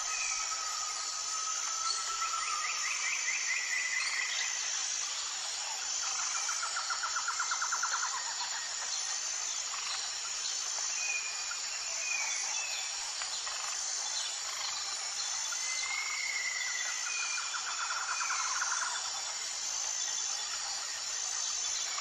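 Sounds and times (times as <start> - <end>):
insect chorus buzzing: 0.0 - 22.0
insect pulsing trill: 0.0 - 22.0.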